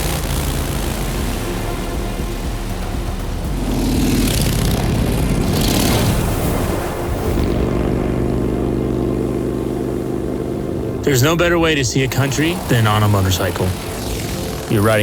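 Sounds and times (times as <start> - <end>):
motorcycle engine drone: 0.0 - 15.0
motorcycles passing by: 0.0 - 15.0.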